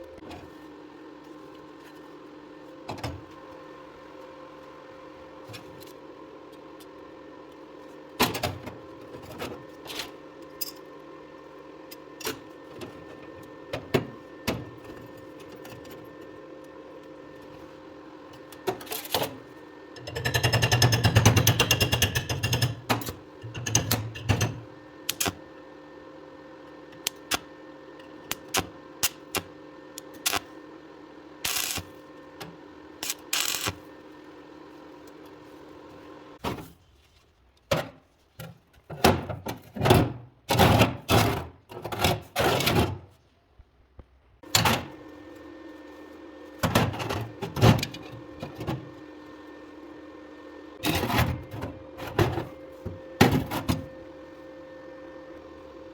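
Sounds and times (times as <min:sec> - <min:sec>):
electrical hum: 0:00.0 - 0:55.9.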